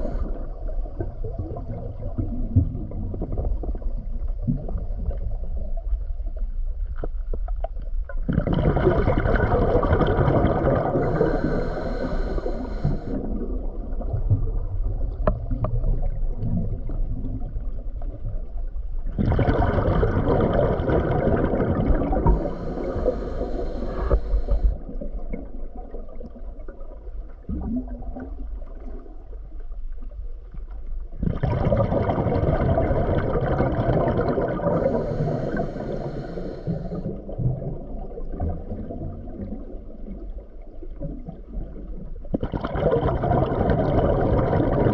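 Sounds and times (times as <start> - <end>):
underwater bubbling and gurgling: 0.0 - 44.9.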